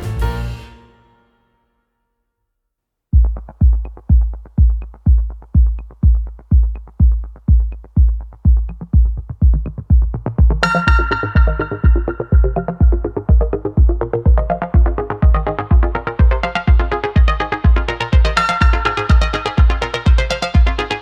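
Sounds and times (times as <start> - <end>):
electronic music with kick drum: 3.1 - 21.0.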